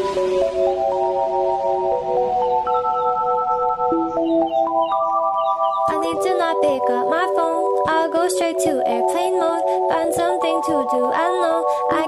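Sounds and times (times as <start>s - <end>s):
pop song with bending melody: 0.0s - 12.0s.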